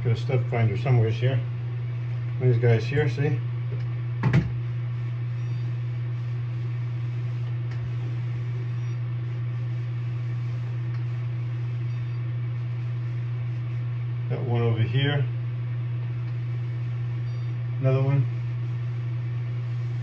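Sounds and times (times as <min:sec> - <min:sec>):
exhaust fan humming: 0:00.0 - 0:20.0.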